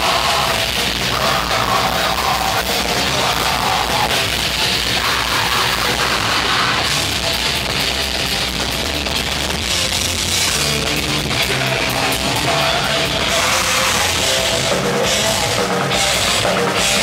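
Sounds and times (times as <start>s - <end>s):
distorted guitars: 0.0s - 17.0s
pounding drums: 0.0s - 17.0s.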